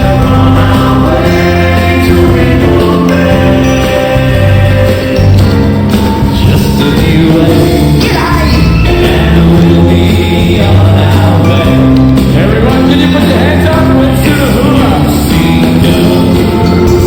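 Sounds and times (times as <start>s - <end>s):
live rock and roll band: 0.0s - 17.0s
person singing: 0.0s - 17.0s.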